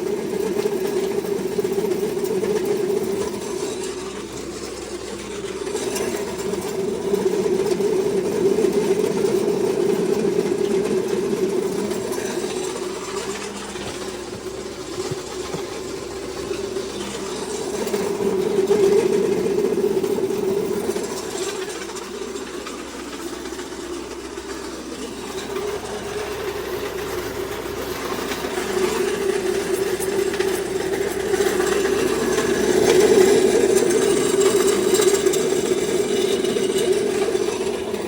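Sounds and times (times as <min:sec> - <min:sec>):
feed mill mechanical hum: 0:00.0 - 0:38.0.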